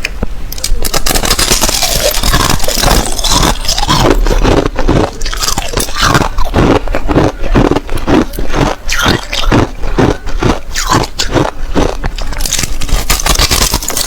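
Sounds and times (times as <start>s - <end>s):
ice being chewed crunching: 0.6s - 14.0s.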